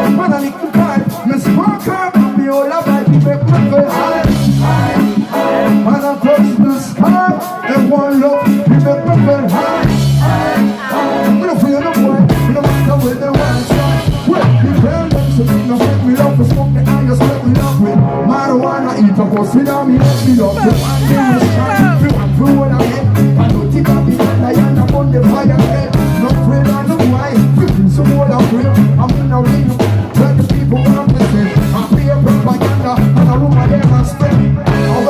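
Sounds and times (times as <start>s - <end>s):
live reggae band: 0.0s - 35.0s.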